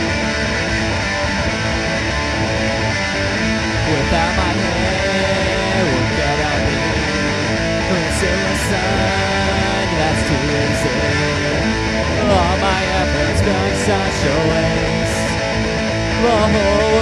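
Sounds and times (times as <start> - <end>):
pop-punk band instrumental: 0.0 - 17.0.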